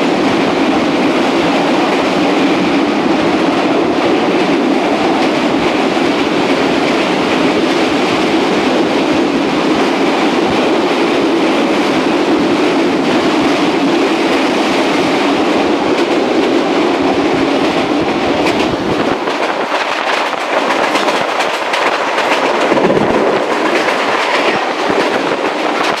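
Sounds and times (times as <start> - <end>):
freight train rushing past: 0.0 - 26.0
train wheels clacking: 0.0 - 26.0.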